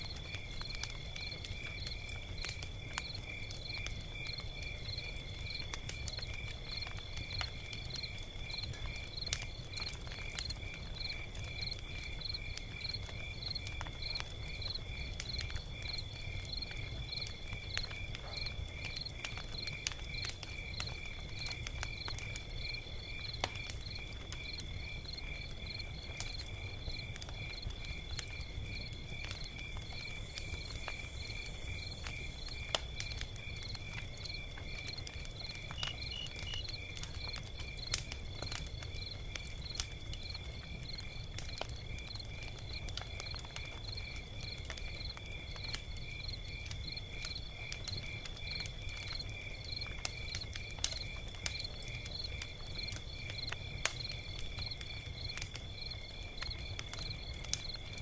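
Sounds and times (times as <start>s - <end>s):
insects chirping: 0.0s - 58.0s
log fire crackling: 0.0s - 58.0s.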